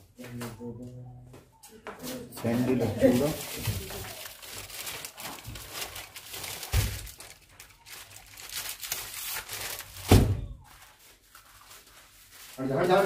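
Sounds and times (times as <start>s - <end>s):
rustling and crinkling handling: 1.9s - 13.0s.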